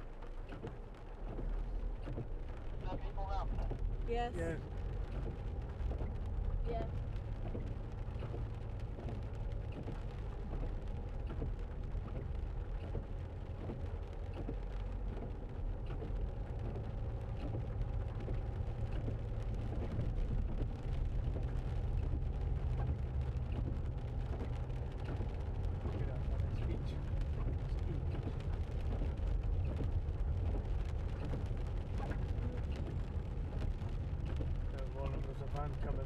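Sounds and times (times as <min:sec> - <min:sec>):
car engine and tyre rumble: 0:00.0 - 0:36.0
light ticks: 0:00.1 - 0:04.0, 0:04.6 - 0:36.0.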